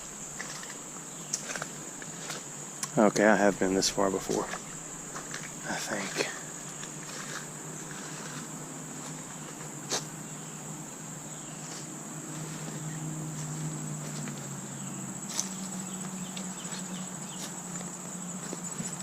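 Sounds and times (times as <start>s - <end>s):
insects singing: 0.0s - 19.0s.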